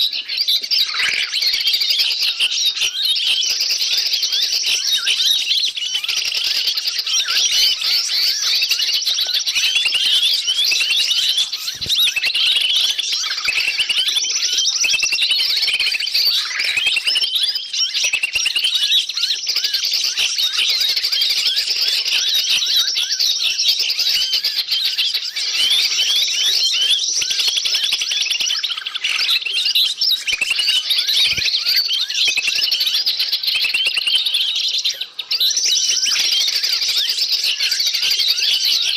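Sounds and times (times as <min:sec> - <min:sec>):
chorus of small birds chirping: 0:00.0 - 0:38.9.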